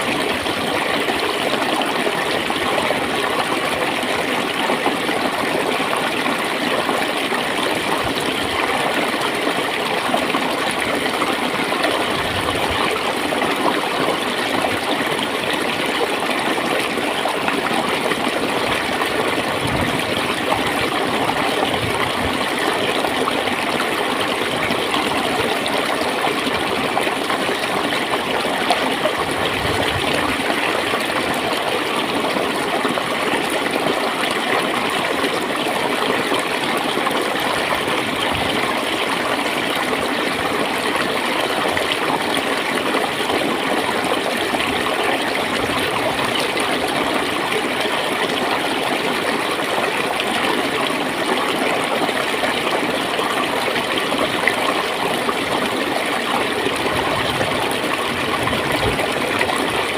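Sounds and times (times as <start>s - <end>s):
stream gurgling over stones: 0.0s - 59.9s.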